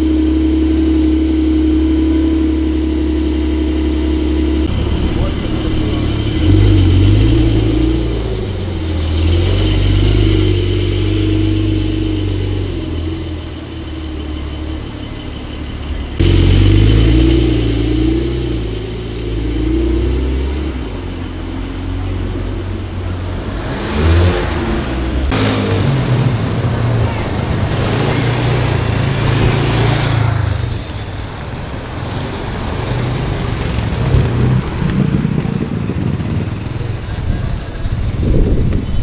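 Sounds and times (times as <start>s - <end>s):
car engines rumbling: 0.0s - 39.0s
car passing: 4.3s - 38.2s.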